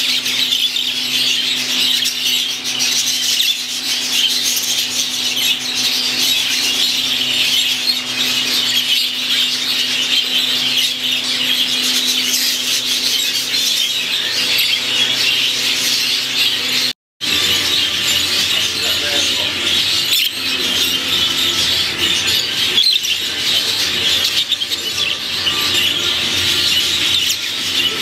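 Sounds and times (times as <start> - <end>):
budgerigars chattering: 0.0 - 28.0.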